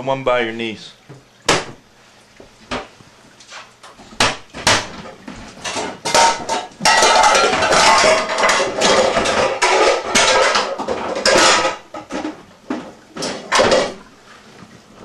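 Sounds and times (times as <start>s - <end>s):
knocks and clatters of handling: 2.6s - 15.0s.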